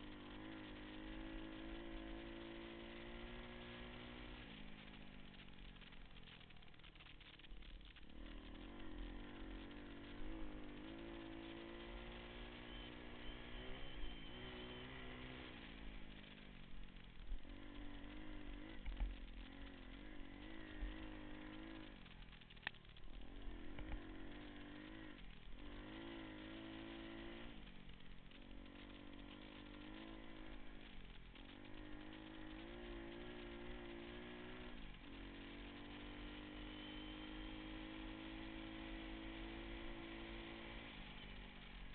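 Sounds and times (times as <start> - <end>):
pit bike engine revving: 0.0 - 41.9.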